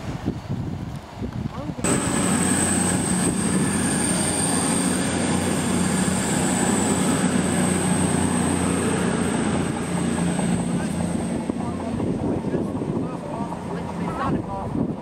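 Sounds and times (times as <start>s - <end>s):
train engines and wheels rumbling: 0.0s - 15.0s
high whine: 1.8s - 14.4s.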